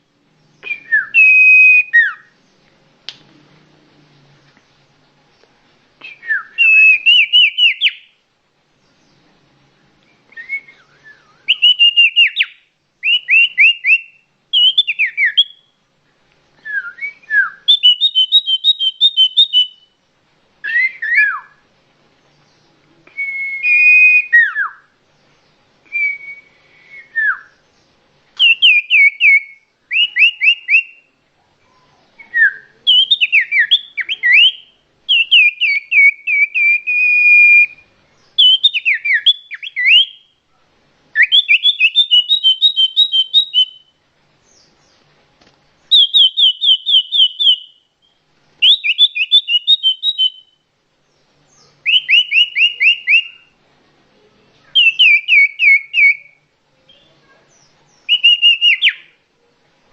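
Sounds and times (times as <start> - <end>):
songbird singing whistles: 0.4 - 2.4, 6.0 - 8.2, 10.0 - 15.9, 16.6 - 20.0, 20.6 - 21.6, 22.4 - 40.4, 41.1 - 45.1, 45.8 - 53.6, 54.6 - 59.2.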